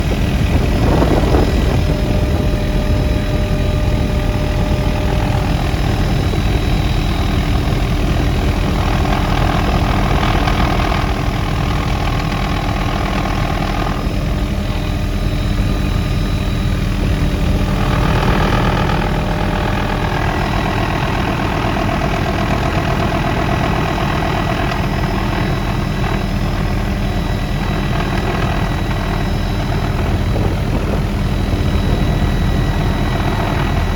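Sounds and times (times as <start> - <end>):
helicopter turbine and rotor: 0.0 - 33.9.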